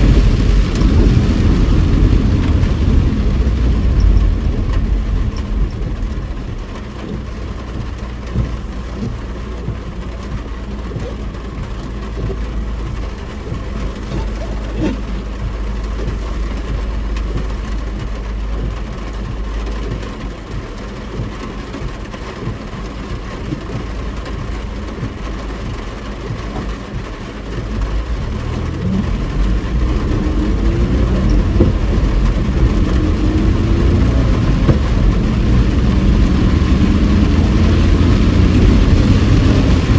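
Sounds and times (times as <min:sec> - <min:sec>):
car engine accelerating: 0:00.0 - 0:39.9
road noise inside car: 0:00.0 - 0:39.9.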